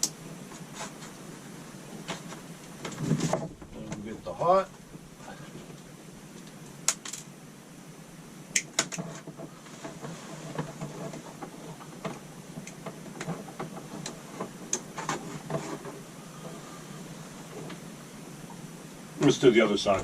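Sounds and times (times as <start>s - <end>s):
handling wires ticks: 0.0s - 4.1s, 4.7s - 7.3s, 8.5s - 19.3s.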